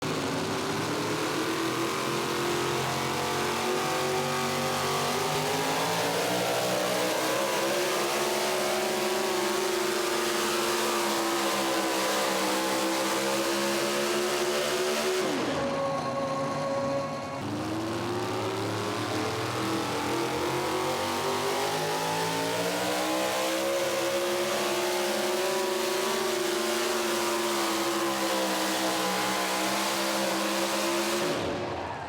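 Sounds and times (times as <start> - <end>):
truck engine at high revs: 0.0 - 32.0.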